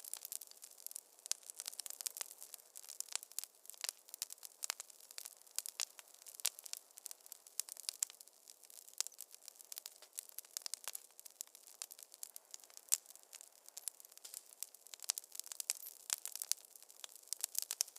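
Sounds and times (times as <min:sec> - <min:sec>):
faint fire hiss: 0:00.0 - 0:17.9
wood fire crackling: 0:00.0 - 0:17.9.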